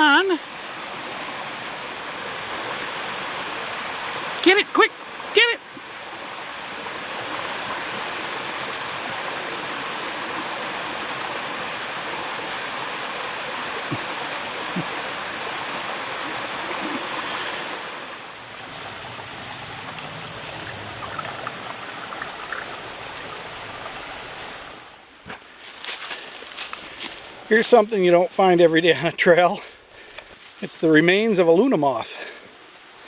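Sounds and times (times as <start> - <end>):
stream and waterfall rushing: 0.0 - 33.0.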